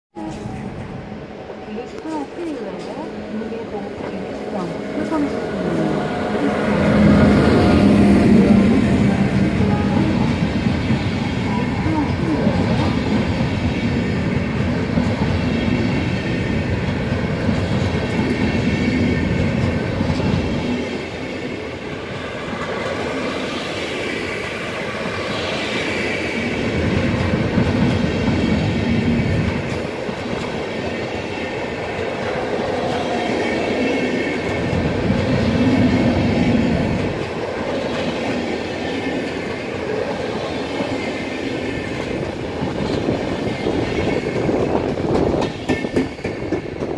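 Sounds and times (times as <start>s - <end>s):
train coaches rushing past: 0.2s - 46.9s
wheels clickety-clack on rail: 1.8s - 46.9s.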